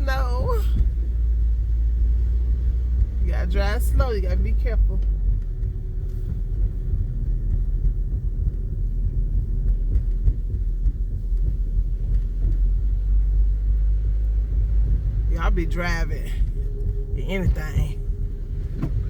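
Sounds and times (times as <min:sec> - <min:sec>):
car rumble from inside cabin: 0:00.0 - 0:19.0.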